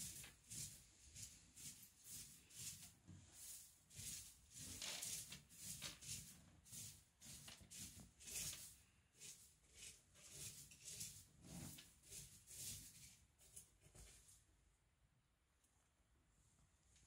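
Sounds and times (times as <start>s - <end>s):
soft rustling and scratching: 0.0s - 14.5s.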